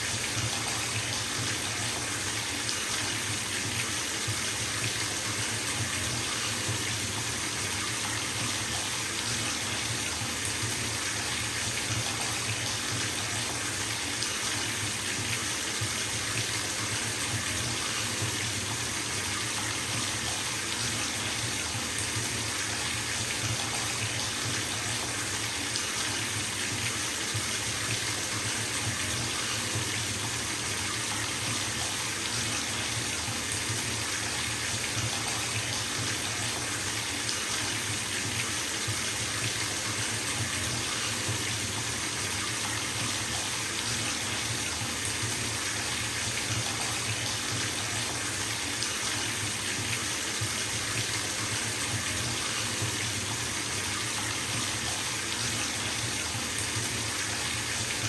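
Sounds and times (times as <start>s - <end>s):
water running into bathtub: 0.0s - 58.0s.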